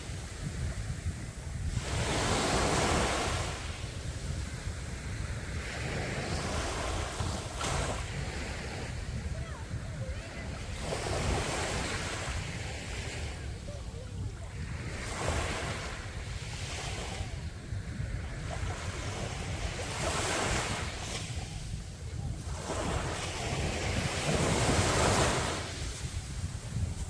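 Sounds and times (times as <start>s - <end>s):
sea waves breaking on a beach: 0.0s - 27.0s
wind rumble on microphone: 0.0s - 27.0s.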